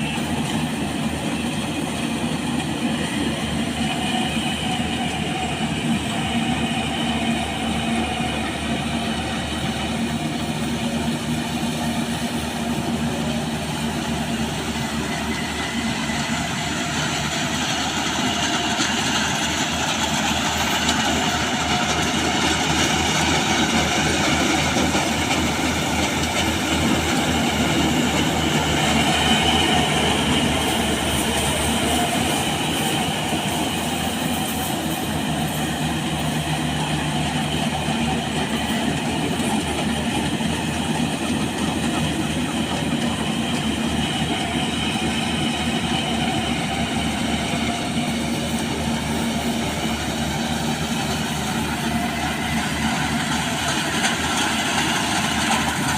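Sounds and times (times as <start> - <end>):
combine harvester engine drone: 0.0 - 55.9
machinery noise: 0.0 - 55.9.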